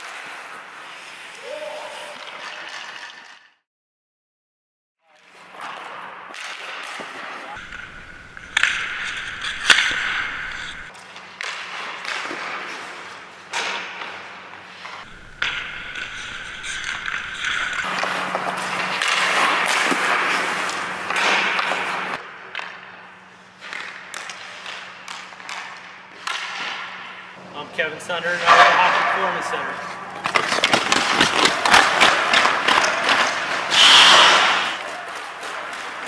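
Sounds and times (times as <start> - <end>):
hockey sticks slapping pucks: 0.0 - 3.4, 5.1 - 36.0
skates scraping on ice: 0.0 - 3.5, 5.2 - 27.0, 28.0 - 36.0.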